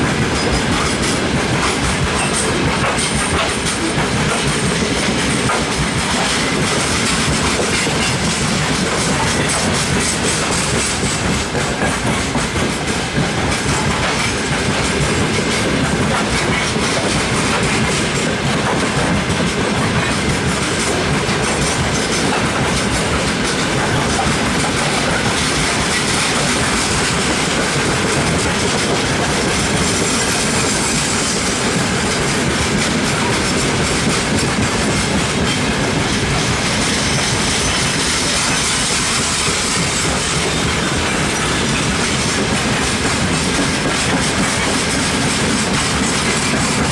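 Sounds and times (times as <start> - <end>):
train wheels clattering over rail joints: 0.0 - 46.9.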